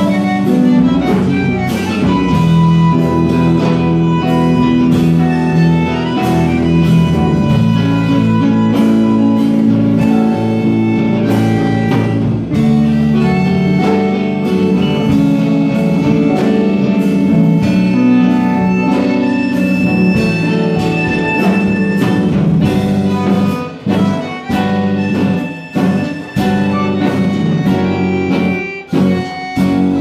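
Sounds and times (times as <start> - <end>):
tango band playing: 0.0 - 30.0.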